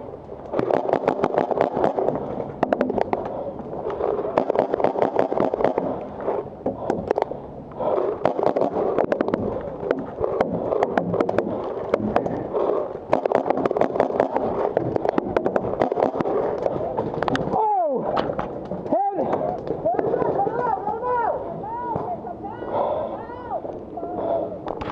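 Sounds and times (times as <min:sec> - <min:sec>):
steady background noise: 0:00.0 - 0:24.9
paintball guns firing: 0:00.5 - 0:20.7.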